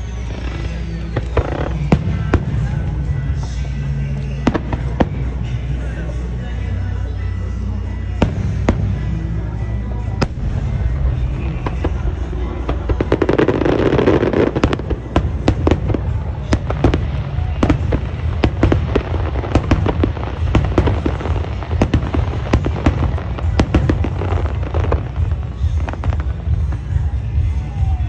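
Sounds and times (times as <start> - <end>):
continuous low rumble: 0.0 - 28.0
fireworks bangs and cracks: 0.0 - 28.0.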